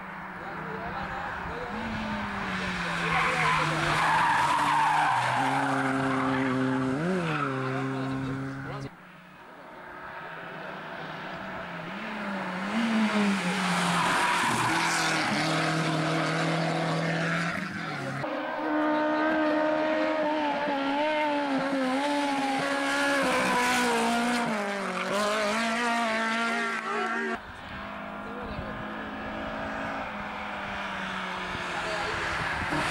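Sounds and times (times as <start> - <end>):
car engine approaching: 0.0 - 32.9
racing car engine revving: 0.8 - 8.9, 11.0 - 32.9.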